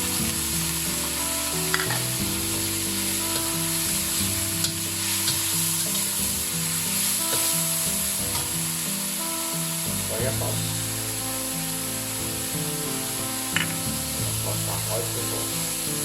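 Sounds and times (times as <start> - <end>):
meat sizzling in a hot pan: 0.0 - 16.0.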